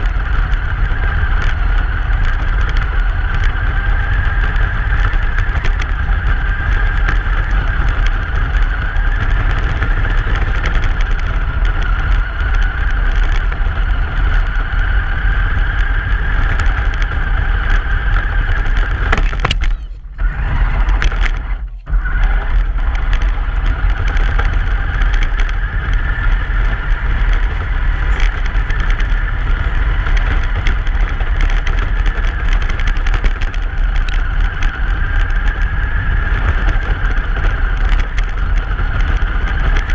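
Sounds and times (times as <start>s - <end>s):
high-pitched whine: 0.0s - 39.8s
truck engine and road rumble: 0.0s - 39.9s.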